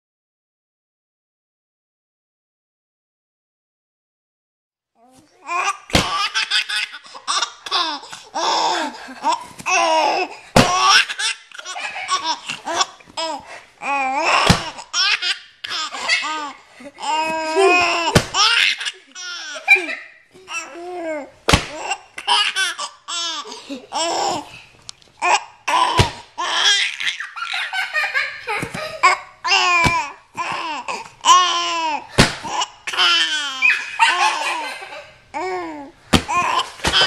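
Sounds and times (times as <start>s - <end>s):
baby giggling: 5.4s - 24.5s, 25.2s - 37.0s.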